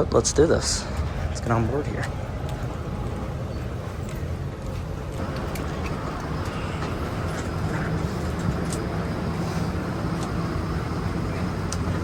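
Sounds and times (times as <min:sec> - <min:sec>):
aircraft air systems rumble: 0:00.0 - 0:12.0.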